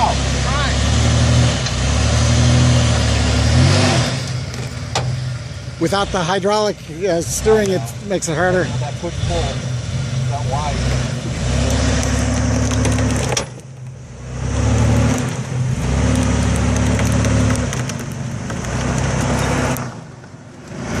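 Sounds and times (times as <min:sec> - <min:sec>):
engine pulling under throttle: 0:00.0 - 0:21.0.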